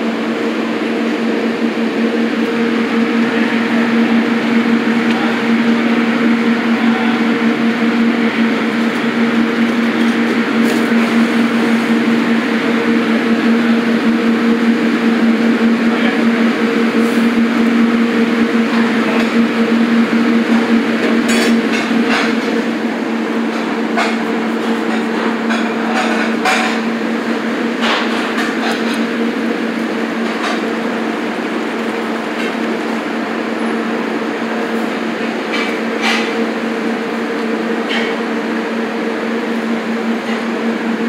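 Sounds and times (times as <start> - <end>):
kitchen mechanical hum: 0.0 - 41.0.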